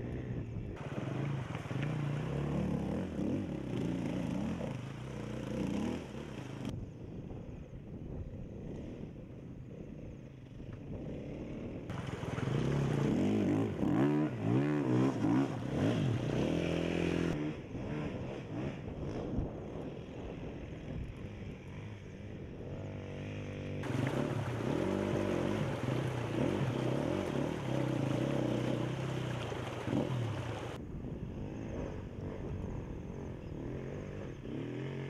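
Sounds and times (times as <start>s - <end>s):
dirt bike engines revving: 0.0s - 6.7s, 10.8s - 30.8s, 31.4s - 35.0s.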